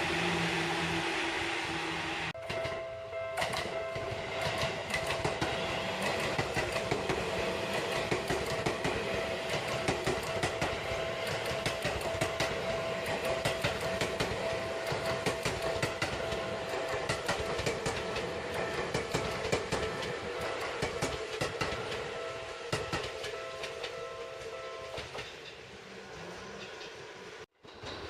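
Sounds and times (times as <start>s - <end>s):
steady high tone: 0.0s - 25.1s
train wheels clicking over joints: 2.4s - 25.7s, 26.4s - 28.0s.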